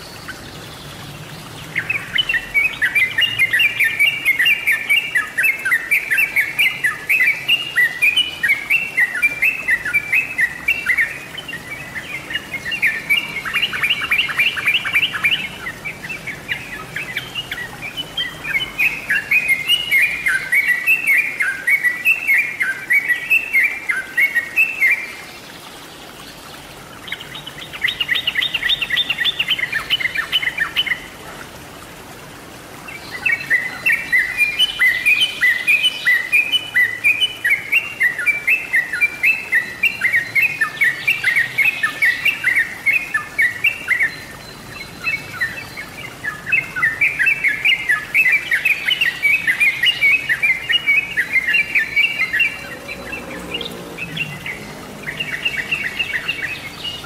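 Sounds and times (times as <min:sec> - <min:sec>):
bulbul singing: 0:00.0 - 0:25.2, 0:33.0 - 0:57.0.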